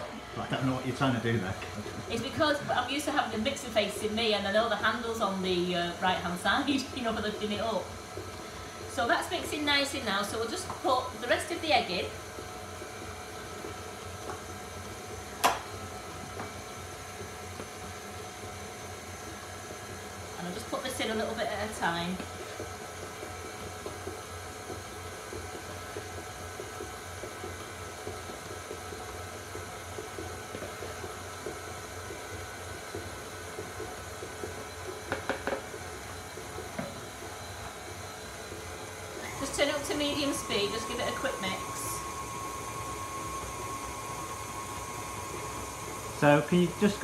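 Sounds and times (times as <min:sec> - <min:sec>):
electric stand mixer running: 0:00.0 - 0:47.0.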